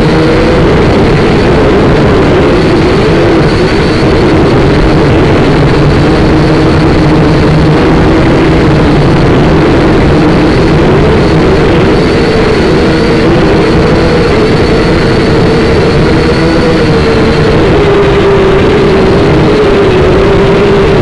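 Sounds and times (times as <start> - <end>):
toy quadcopter buzzing whine: 0.0 - 21.0.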